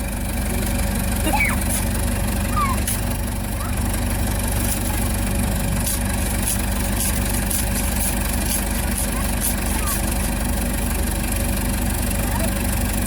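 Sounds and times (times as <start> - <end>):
backhoe engine idling: 0.0 - 13.0.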